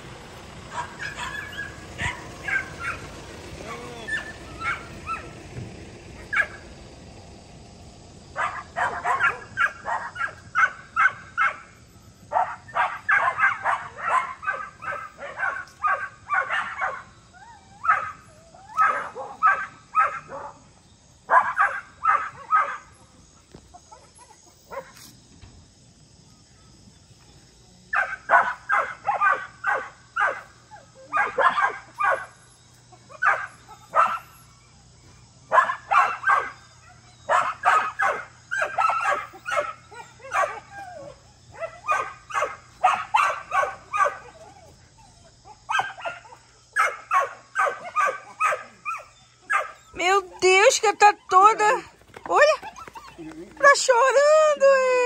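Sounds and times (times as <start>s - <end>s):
dogs barking excitedly: 0.0s - 25.2s, 27.9s - 55.0s.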